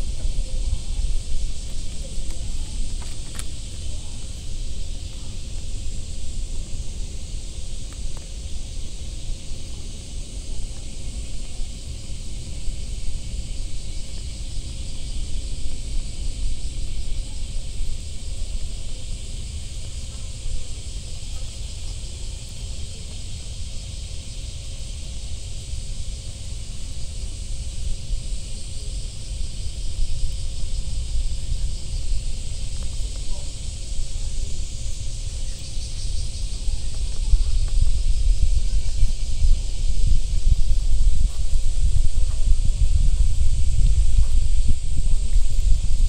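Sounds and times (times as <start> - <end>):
insects droning: 0.0 - 46.0
wind rumble on microphone: 0.0 - 46.0.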